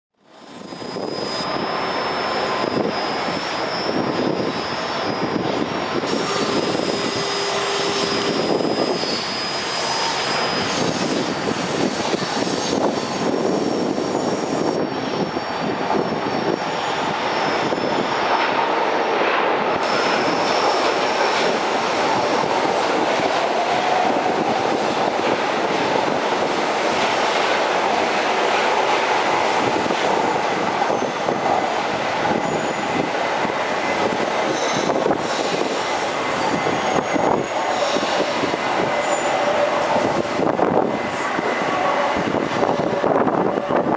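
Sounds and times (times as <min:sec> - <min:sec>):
train wheels rumbling on rails: 0:00.2 - 0:43.9
high-pitched wheel squeals: 0:00.4 - 0:18.6, 0:19.8 - 0:43.9.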